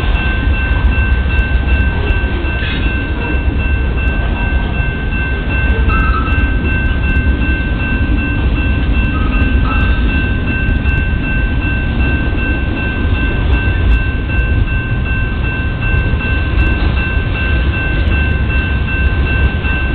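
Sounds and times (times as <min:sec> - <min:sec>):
train wheels rumbling on rail: 0:00.0 - 0:19.9.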